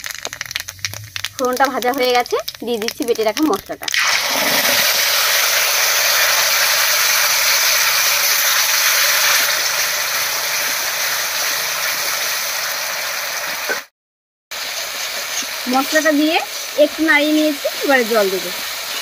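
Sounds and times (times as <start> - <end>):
paste sizzling in hot oil: 0.0 - 13.9, 14.5 - 19.0.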